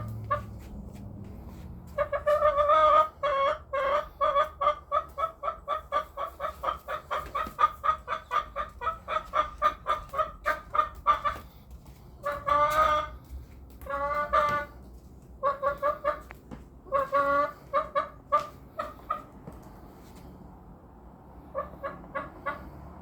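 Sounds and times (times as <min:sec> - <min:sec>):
hen clucking: 0:00.0 - 0:00.9, 0:01.5 - 0:19.8, 0:21.5 - 0:22.9.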